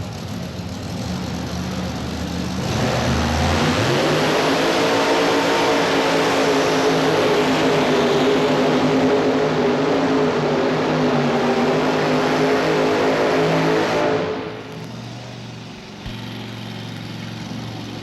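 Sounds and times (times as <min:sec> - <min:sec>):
tractor engine revving: 0:00.1 - 0:18.0.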